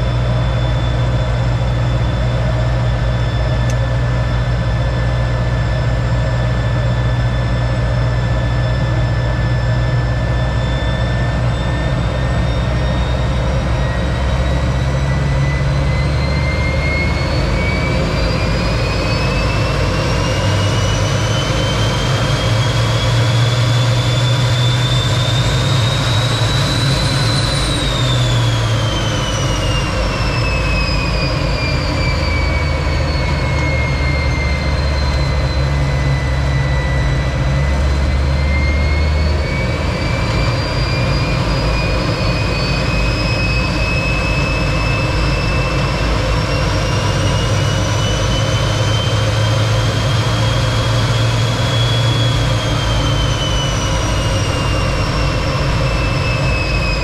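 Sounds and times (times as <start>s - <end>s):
jet engine whine and rumble: 0.0s - 57.0s.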